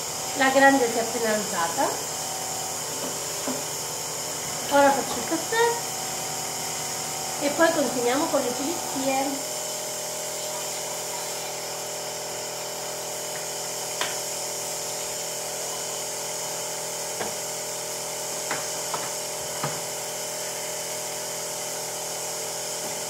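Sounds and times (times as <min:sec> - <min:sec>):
coffee machine pump buzzing: 0:00.0 - 0:23.0.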